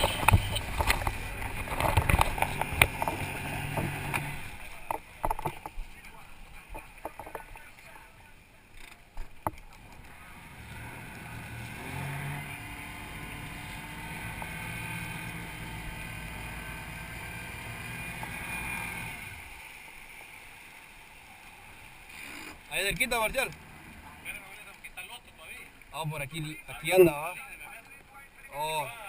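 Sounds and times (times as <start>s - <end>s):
motorboat engine running: 0.0s - 24.7s
wind and water hiss: 0.0s - 29.0s.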